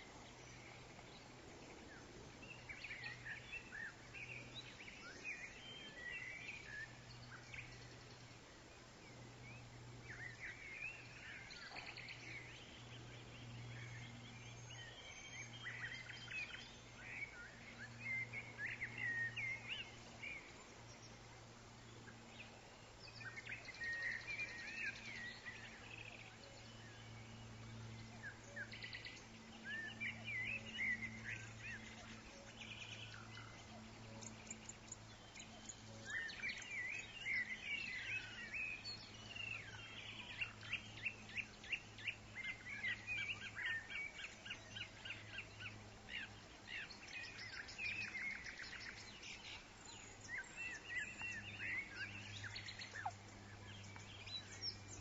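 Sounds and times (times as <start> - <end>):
faint steady low hum: 0.0 - 55.0
songbirds chirping and trilling: 0.0 - 55.0.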